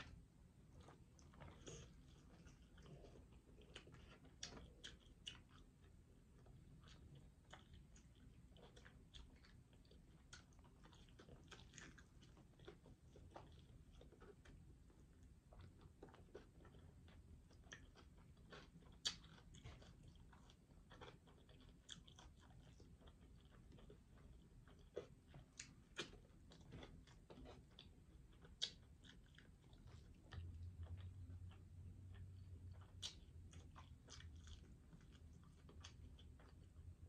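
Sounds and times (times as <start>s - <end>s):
person chewing crunchy food: 0.0s - 37.0s.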